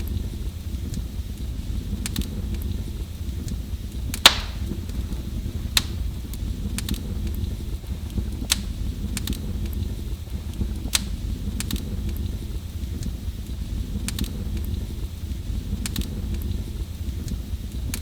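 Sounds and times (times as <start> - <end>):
fire popping: 0.0 - 18.0
low fire rumble: 0.0 - 18.0
wood fire crackling: 0.0 - 18.0.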